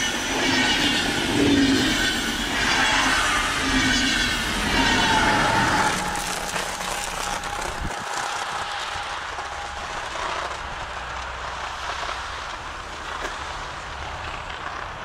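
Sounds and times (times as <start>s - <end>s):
train wheel-and-rail noise: 0.0s - 15.0s.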